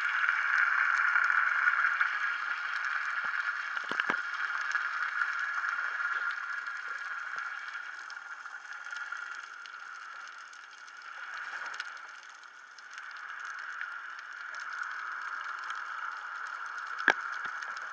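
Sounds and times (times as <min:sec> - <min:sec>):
faint clicks and crackles: 0:00.0 - 0:17.9
muffled underwater hiss: 0:00.0 - 0:17.9.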